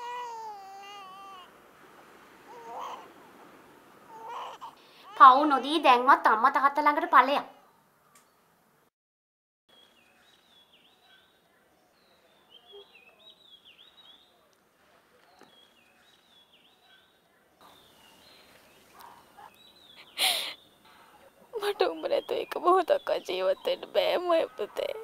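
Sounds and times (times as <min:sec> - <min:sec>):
faint birds chirping: 0:00.0 - 0:08.9, 0:09.7 - 0:25.0
outdoor background noise: 0:00.0 - 0:08.9, 0:09.7 - 0:25.0.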